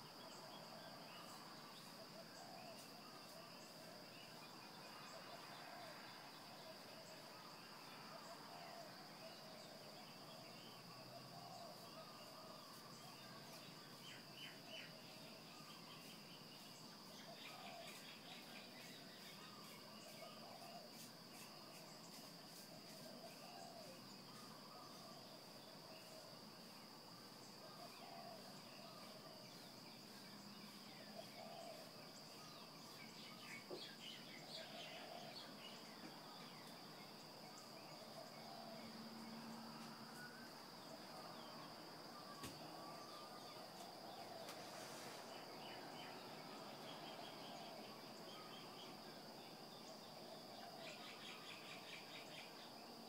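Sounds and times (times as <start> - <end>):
high-pitched insect trill: 0.0 - 53.0.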